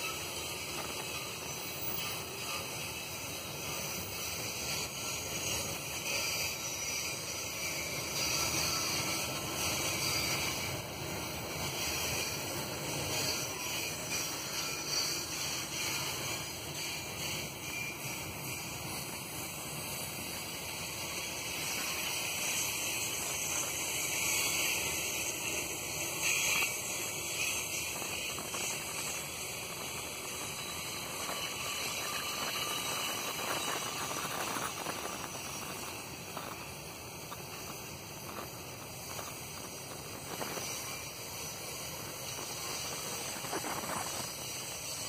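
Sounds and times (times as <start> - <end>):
train wheels on track: 0.0 - 45.0.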